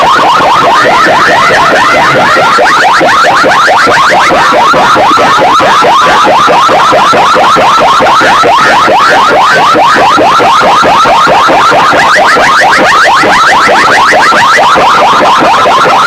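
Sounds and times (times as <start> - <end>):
distorted electronic siren chirps: 0.0 - 16.0.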